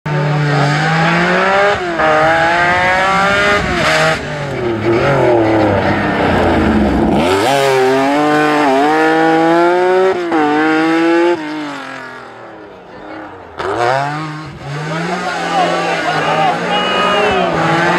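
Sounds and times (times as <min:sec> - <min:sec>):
rally car engine accelerating: 0:00.1 - 0:17.9.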